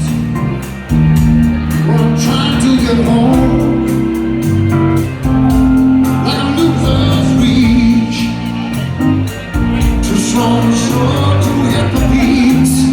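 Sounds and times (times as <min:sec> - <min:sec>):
live band playing: 0:00.0 - 0:12.9
man singing: 0:01.7 - 0:12.9.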